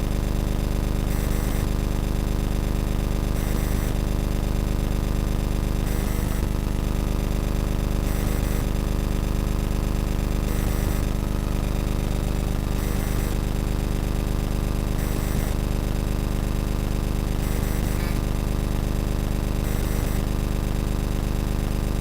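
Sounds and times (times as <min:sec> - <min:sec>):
buzzing hum: 0:00.0 - 0:01.8, 0:03.2 - 0:21.3.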